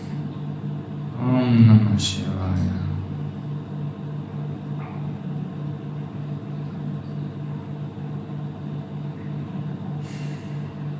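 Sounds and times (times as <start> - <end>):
pulsing mechanical hum: 0.0 - 10.9.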